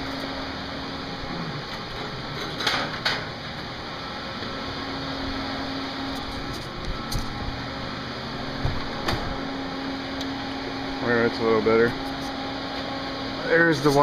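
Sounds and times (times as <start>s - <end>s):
cooling fans whirring: 0.0s - 14.0s
faint hum: 0.0s - 14.0s.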